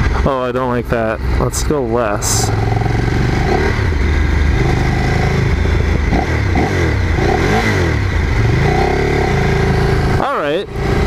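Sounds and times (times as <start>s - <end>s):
motorcycle engine revving: 0.0s - 11.0s
wind and road rush: 0.0s - 11.0s.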